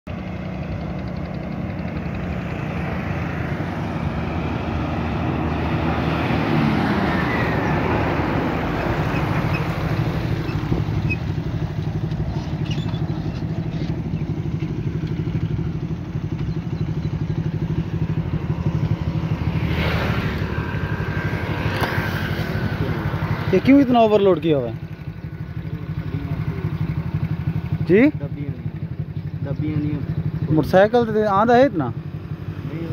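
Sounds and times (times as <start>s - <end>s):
road noise: 0.0s - 32.9s
small motorcycle engine running: 0.1s - 32.9s.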